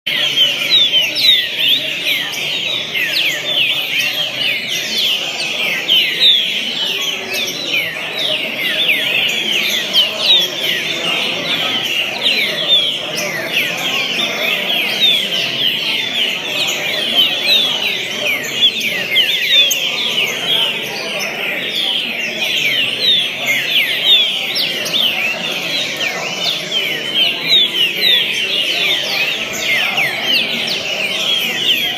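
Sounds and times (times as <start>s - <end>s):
bird singing whistled notes: 0.1s - 31.9s.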